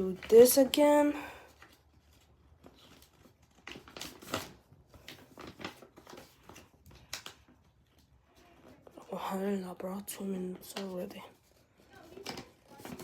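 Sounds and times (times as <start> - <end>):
paper rustling and crinkling: 0.0 - 9.1, 10.3 - 13.0.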